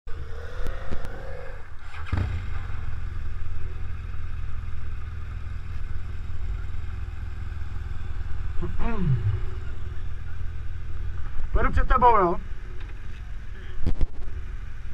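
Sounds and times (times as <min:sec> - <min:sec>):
motorcycles idling: 0:00.1 - 0:14.9.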